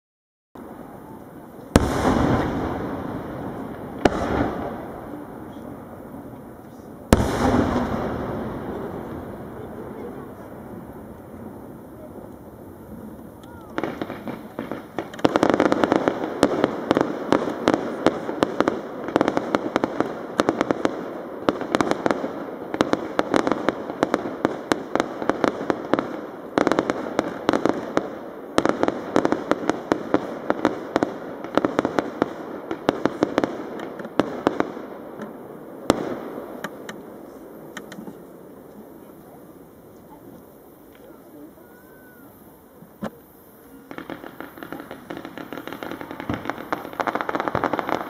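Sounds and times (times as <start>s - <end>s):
fireworks bangs and crackles: 0.6s - 48.0s.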